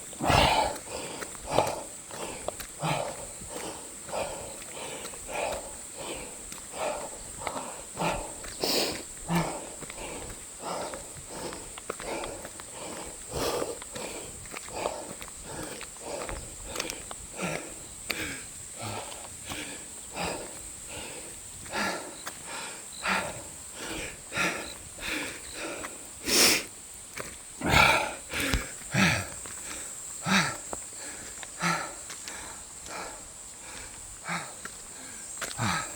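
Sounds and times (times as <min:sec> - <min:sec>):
heavy rhythmic panting: 0:00.0 - 0:26.6, 0:27.6 - 0:35.9
loud gasps: 0:00.2 - 0:26.7, 0:27.6 - 0:35.9.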